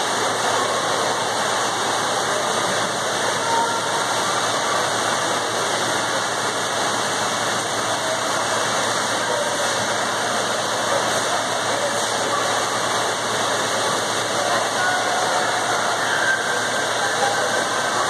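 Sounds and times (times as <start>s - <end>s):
distant voices: 0.0s - 18.0s
water splashing: 0.0s - 18.0s.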